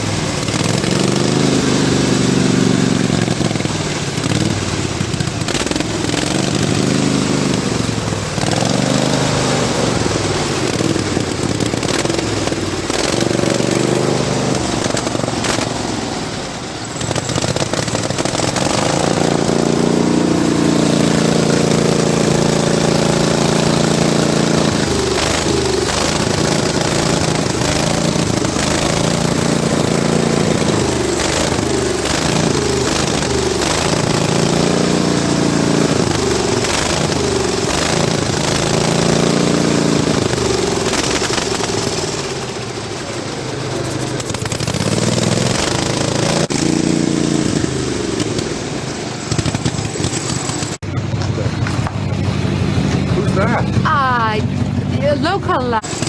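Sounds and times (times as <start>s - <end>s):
lawnmower engine running hard: 0.0s - 56.0s.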